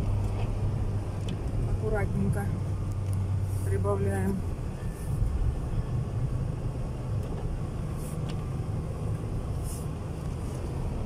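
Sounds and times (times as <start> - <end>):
road noise on snow: 0.0 - 11.0.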